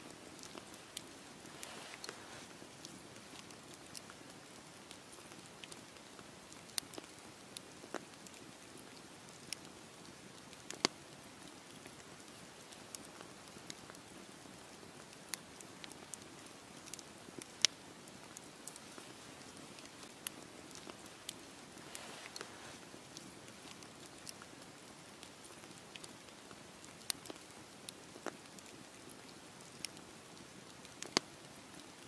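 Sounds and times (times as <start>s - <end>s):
campfire crackling and popping: 0.0s - 32.0s
faint fire hiss: 0.0s - 32.0s.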